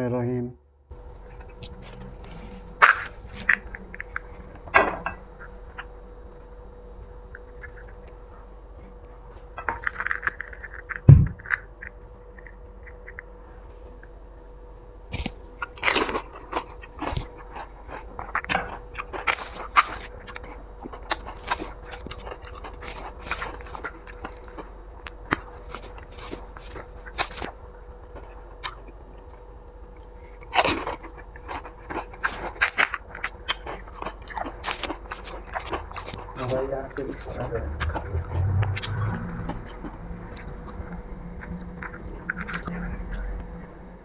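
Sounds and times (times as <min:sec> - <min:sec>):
faint steady hum: 0:00.0 - 0:44.0
crisp shells crunching while chewed: 0:00.9 - 0:14.2, 0:15.1 - 0:43.6.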